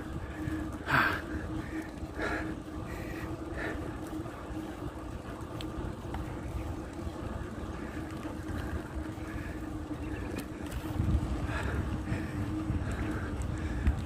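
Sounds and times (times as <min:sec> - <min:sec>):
low wind: 0:00.0 - 0:14.0
road rumble: 0:00.0 - 0:14.0
steady hum: 0:00.0 - 0:14.0.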